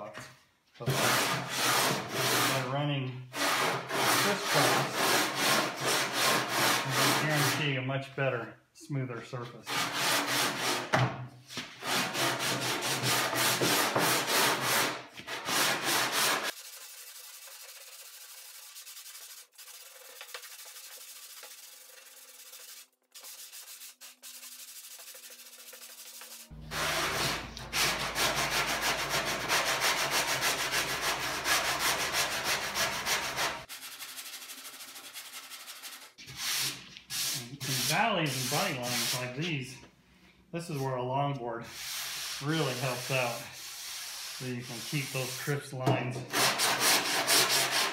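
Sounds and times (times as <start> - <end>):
hand sanding rasping: 0.8 - 7.7, 9.7 - 10.9, 11.5 - 39.5, 41.6 - 47.9.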